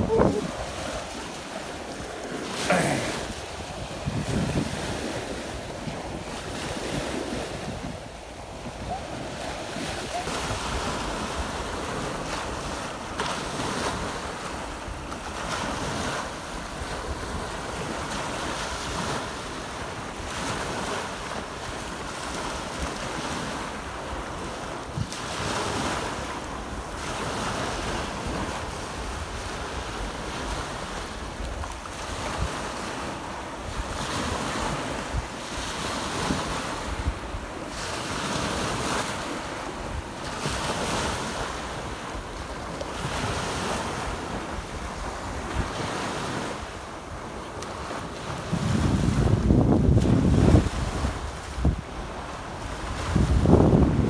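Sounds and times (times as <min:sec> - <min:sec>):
small waves breaking on sand: 0:00.0 - 0:54.0
wind rumbling on microphone: 0:00.0 - 0:54.0.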